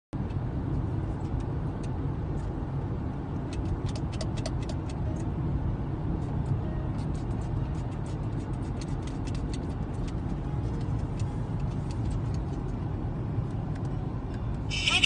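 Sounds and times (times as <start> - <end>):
car road and engine noise: 0.2 - 15.0.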